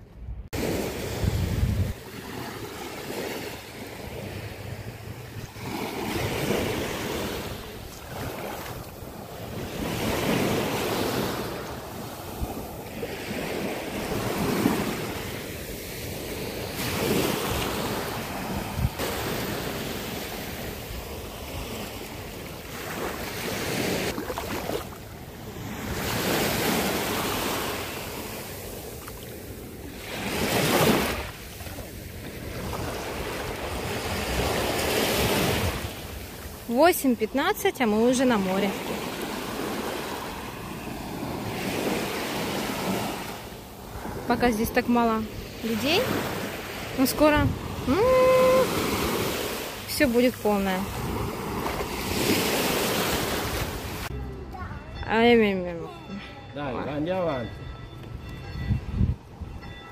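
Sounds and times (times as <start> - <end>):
small waves lapping on sand: 0.6 - 54.1.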